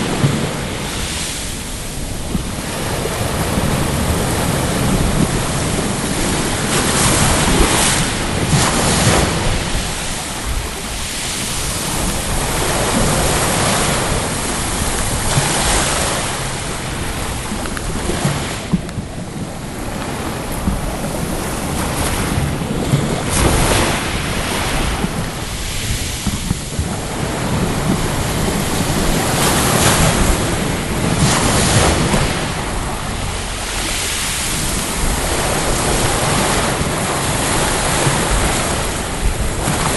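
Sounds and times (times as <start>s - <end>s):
sea waves washing onto shore: 0.0s - 39.9s
wind buffeting microphone: 0.0s - 39.9s.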